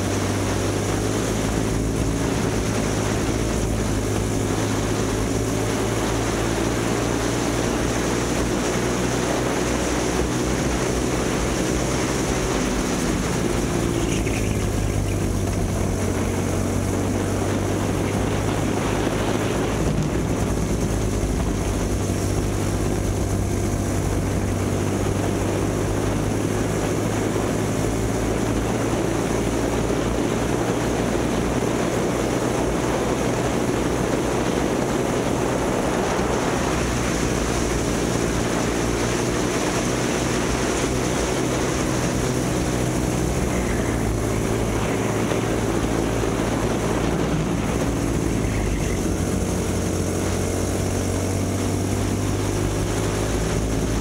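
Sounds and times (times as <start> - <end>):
kart two-stroke engine racing: 0.0 - 54.0.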